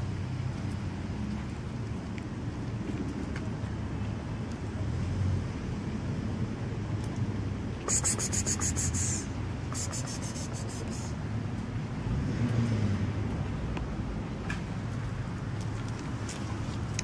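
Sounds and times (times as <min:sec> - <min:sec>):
kittens eating wet food: 0:00.0 - 0:11.9, 0:13.7 - 0:17.0.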